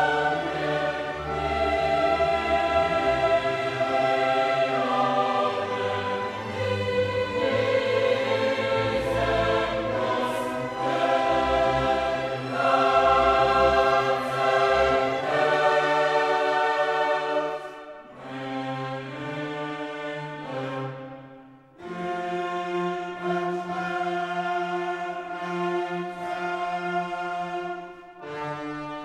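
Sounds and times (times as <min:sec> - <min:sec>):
choir with orchestra: 0:00.0 - 0:29.0.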